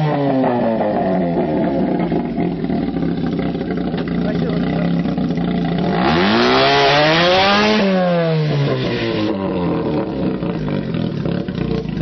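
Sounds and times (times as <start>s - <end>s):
rotary engine revving: 0.0s - 12.0s.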